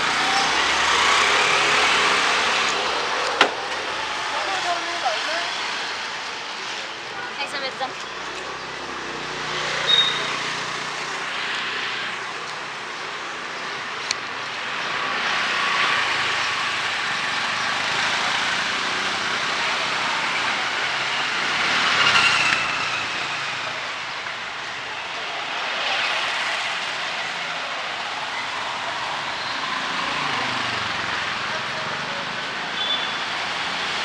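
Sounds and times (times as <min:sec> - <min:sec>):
traffic on wet road: 0:00.0 - 0:34.0.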